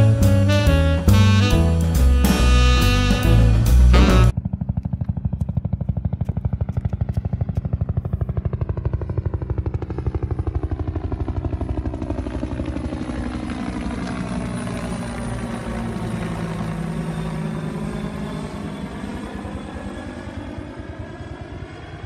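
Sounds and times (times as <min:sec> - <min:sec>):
helicopter rotor beating: 0:00.0 - 0:22.0
helicopter whine falling in pitch: 0:00.0 - 0:22.0.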